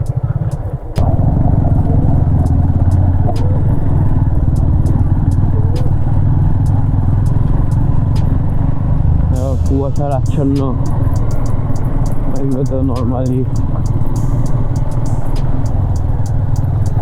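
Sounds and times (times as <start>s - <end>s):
motorcycle engine and wind noise: 0.0s - 17.0s.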